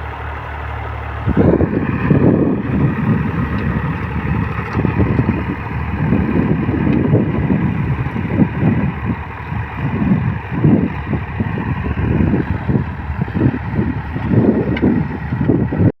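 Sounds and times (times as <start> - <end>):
diesel tractor engine running: 0.0 - 15.9.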